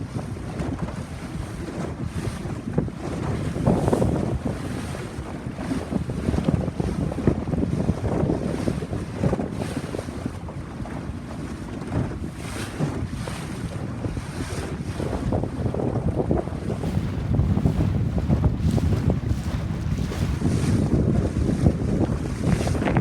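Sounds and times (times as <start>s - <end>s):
rushing sea water: 0.0s - 23.0s
wind buffeting microphone: 0.0s - 23.0s.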